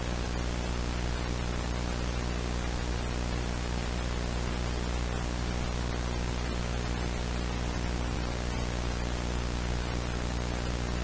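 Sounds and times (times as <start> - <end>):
low electrical hum: 0.0 - 11.0
static hiss: 0.0 - 11.0.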